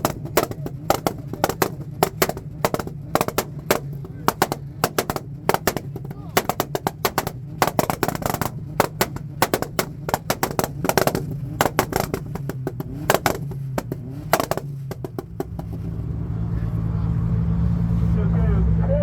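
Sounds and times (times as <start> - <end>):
car exhaust popping and banging: 0.0 - 17.3
car engine running: 0.0 - 19.0.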